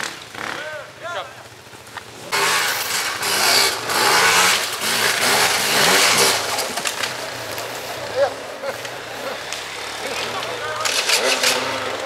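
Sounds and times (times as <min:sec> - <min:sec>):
dirt bike engine revving: 0:00.0 - 0:01.6, 0:02.2 - 0:12.0.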